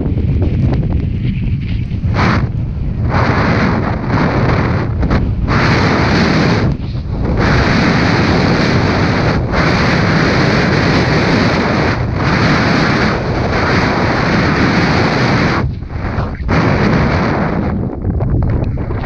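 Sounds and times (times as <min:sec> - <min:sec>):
wind rushing over microphone: 0:00.0 - 0:19.0
snowboard hissing through snow: 0:01.4 - 0:17.6.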